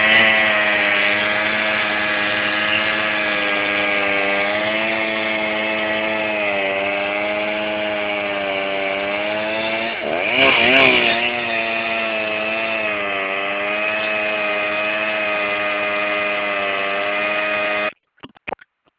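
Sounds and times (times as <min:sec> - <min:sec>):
small engine running: 0:00.0 - 0:17.9.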